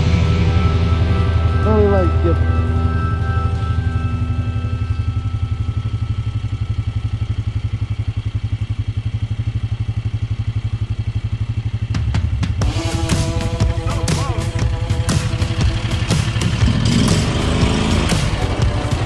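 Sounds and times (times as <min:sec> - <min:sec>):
riding mower engine idling: 0:00.0 - 0:19.0.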